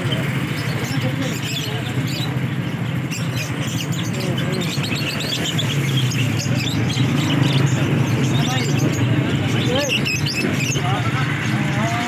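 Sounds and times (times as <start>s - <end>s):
caged birds chirping: 0.0s - 12.0s
steady background murmur: 0.0s - 12.0s.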